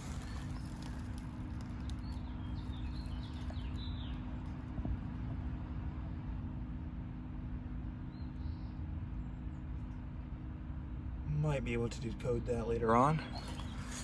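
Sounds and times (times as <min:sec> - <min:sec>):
air conditioner units humming: 0:00.0 - 0:14.0.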